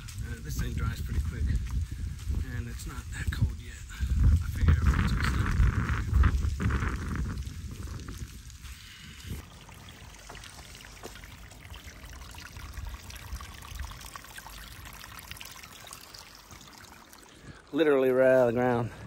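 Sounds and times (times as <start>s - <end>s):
spring water trickling: 0.0s - 19.0s.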